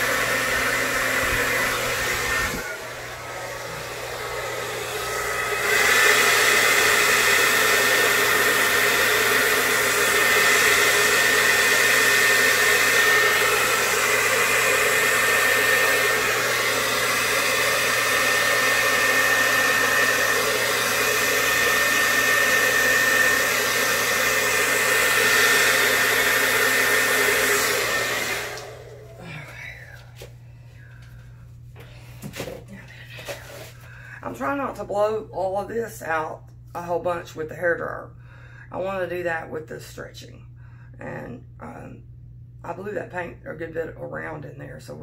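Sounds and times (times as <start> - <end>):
hair dryer running: 0.0 - 37.3.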